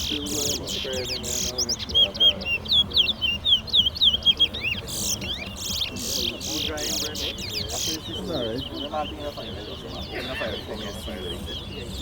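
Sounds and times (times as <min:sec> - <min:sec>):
finch singing whistled notes: 0:00.0 - 0:12.0.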